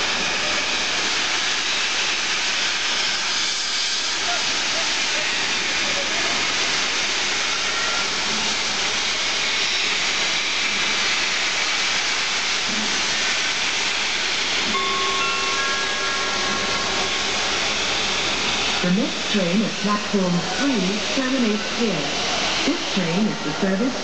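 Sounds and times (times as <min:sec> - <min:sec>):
loud hiss of escaping steam: 0:00.0 - 0:24.0.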